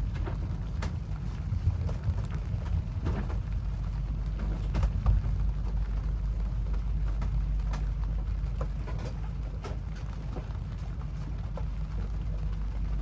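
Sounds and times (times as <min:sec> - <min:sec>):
loud steady low rumble: 0:00.0 - 0:13.0
raindrops tapping: 0:00.0 - 0:13.0.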